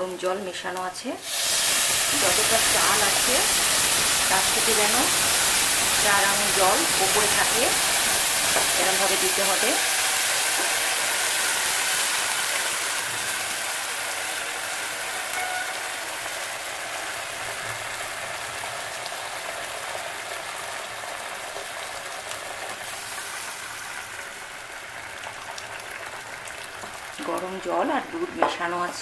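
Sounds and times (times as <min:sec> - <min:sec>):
liquid sizzling and bubbling in pot: 0:01.2 - 0:29.0.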